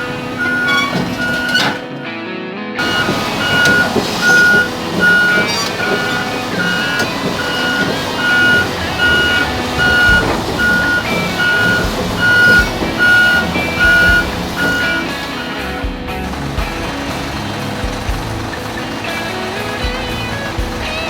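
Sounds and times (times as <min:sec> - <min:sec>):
back-up alarm beeping: 0:00.0 - 0:02.0, 0:02.8 - 0:20.2
diesel engine running: 0:00.0 - 0:21.0.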